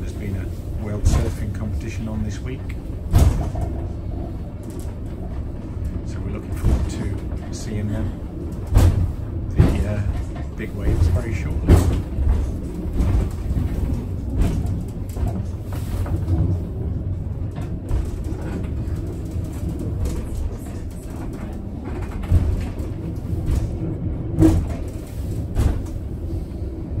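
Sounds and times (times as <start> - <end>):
railway car rumbling on track: 0.0 - 27.0.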